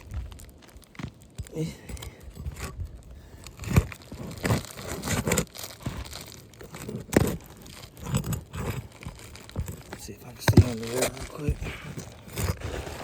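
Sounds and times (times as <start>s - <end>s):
roof shingles crackling and cracking: 0.0s - 13.0s.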